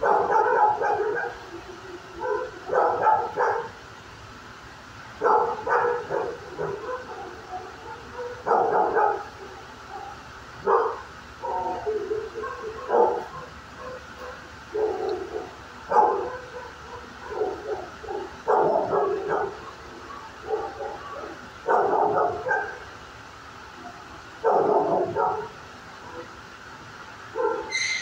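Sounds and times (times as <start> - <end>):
dog barking: 0.0 - 3.8, 5.2 - 22.9, 23.8 - 26.4, 27.3 - 28.0.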